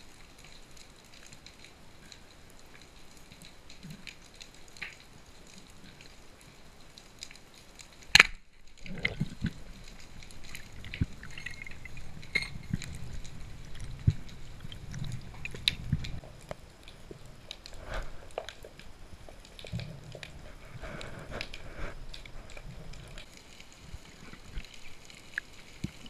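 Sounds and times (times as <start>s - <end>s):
low water rumble: 1.6s - 26.0s.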